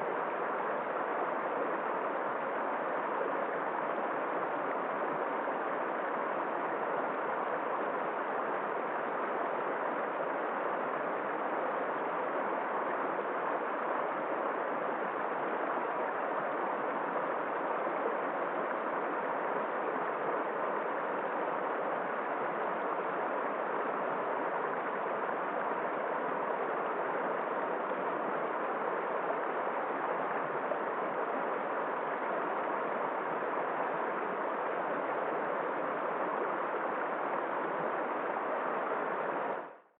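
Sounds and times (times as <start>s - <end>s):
stream water rushing: 0.0s - 39.8s.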